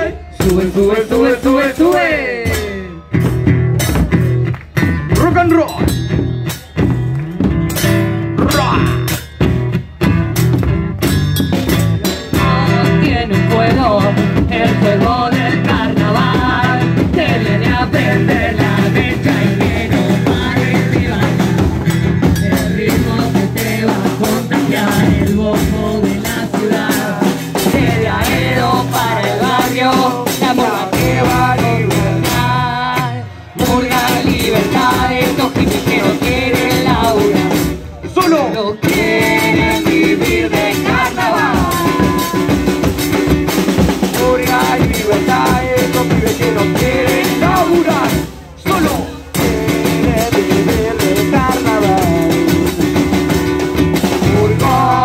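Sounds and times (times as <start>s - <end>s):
upbeat rock song with singing: 0.0s - 55.0s.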